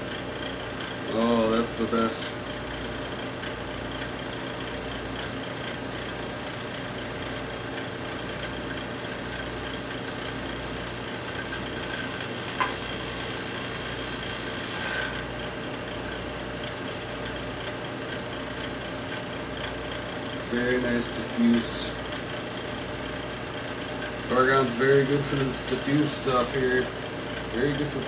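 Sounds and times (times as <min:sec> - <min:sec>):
vacuum pump running: 0:00.0 - 0:28.0.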